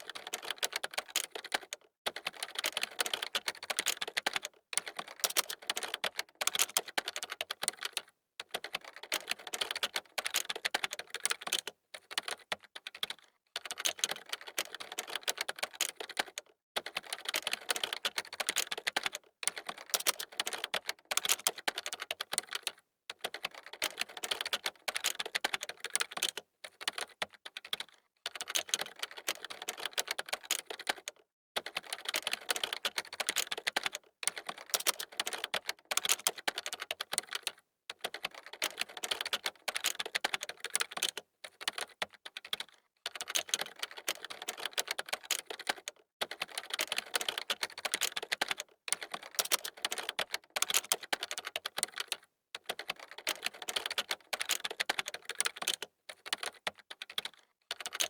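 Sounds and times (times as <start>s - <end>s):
computer keyboard typing: 0.0s - 58.0s.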